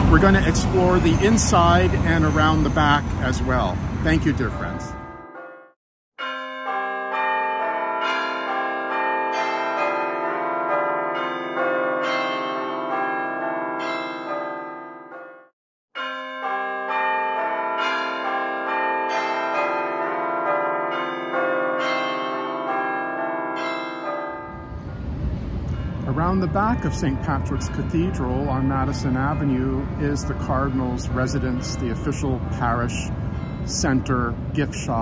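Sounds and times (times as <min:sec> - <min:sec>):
church bells ringing a peal: 0:00.0 - 0:35.0.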